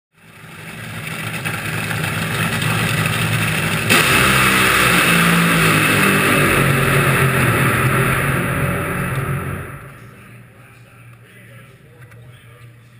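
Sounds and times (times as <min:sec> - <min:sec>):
dragster engine idling: 0:00.2 - 0:12.9.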